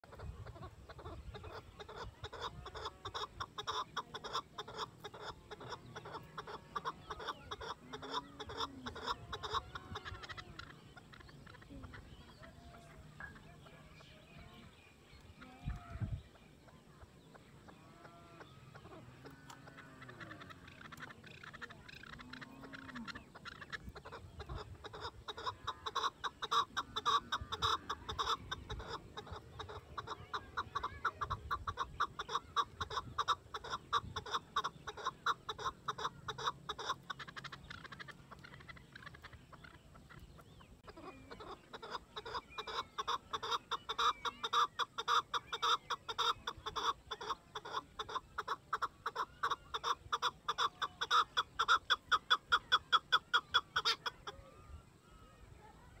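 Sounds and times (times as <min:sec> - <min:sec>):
partridge calling: 0:00.0 - 0:56.0.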